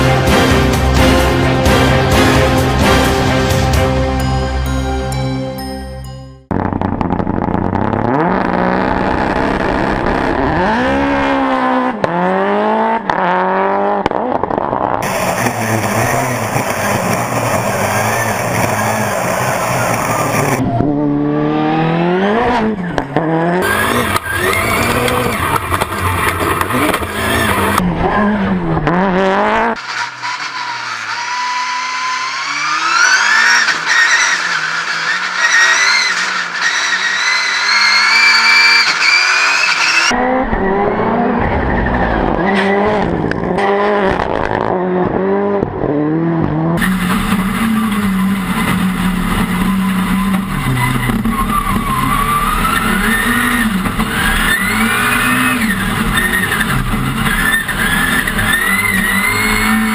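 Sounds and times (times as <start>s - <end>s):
race car engine revving: 6.5s - 59.9s.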